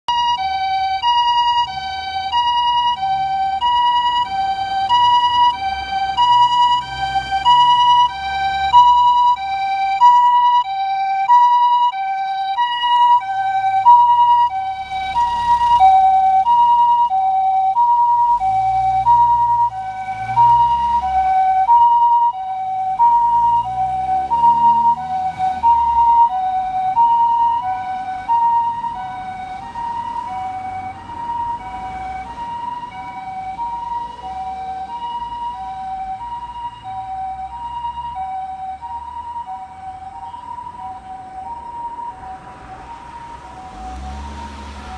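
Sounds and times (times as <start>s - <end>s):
engine and road rumble: 0.0s - 44.9s
two-tone electronic siren: 0.1s - 44.9s.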